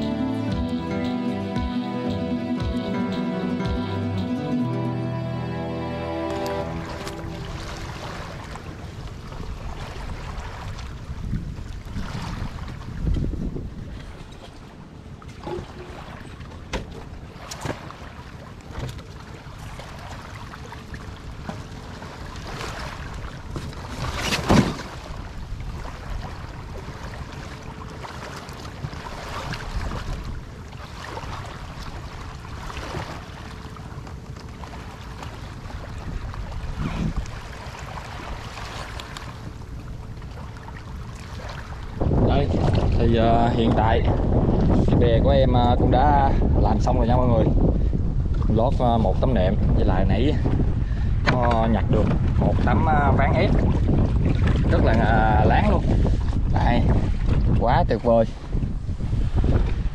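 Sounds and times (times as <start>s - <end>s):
sea surf: 0.0s - 59.9s
wind rumbling on microphone: 6.2s - 59.9s.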